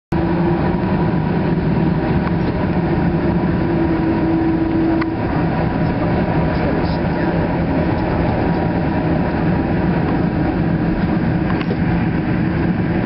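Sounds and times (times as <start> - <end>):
airliner cabin engine rush: 0.1 - 13.0.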